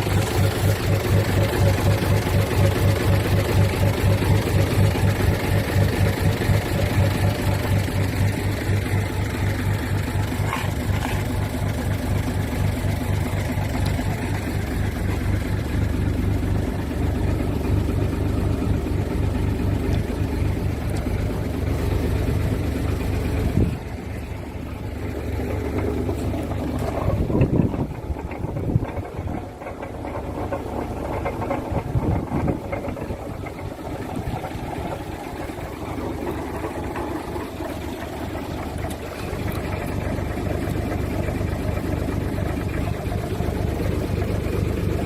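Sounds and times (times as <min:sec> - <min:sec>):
truck diesel engine idling: 0:00.0 - 0:45.0.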